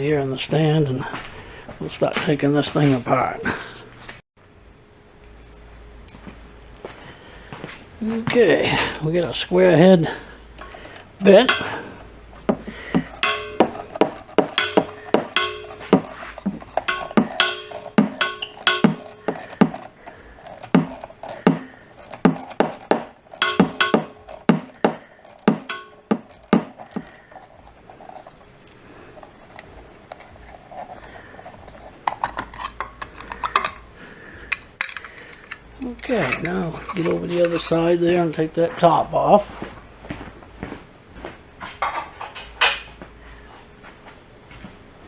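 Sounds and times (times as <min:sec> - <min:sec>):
metal hand tools clinking: 0:00.0 - 0:03.8, 0:05.2 - 0:39.4.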